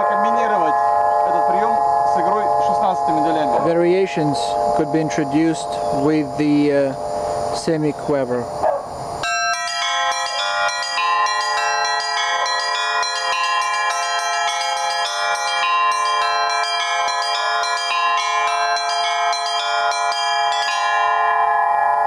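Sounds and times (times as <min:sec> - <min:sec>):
bells struck rhythmically: 0:00.0 - 0:07.8, 0:09.2 - 0:22.0
steady low bell tone: 0:00.0 - 0:08.2, 0:09.2 - 0:22.0.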